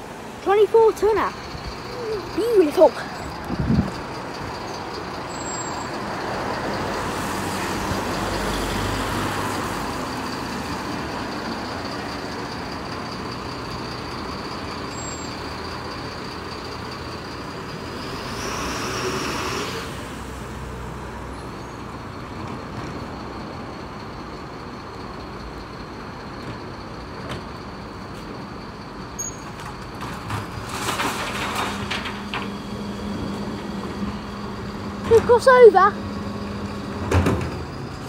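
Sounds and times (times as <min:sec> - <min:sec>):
lorry engine and road sound: 0:00.0 - 0:38.0.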